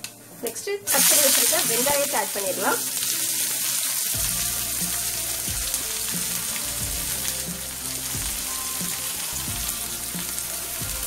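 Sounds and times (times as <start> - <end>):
onions sizzling in hot oil: 0.5 - 11.0.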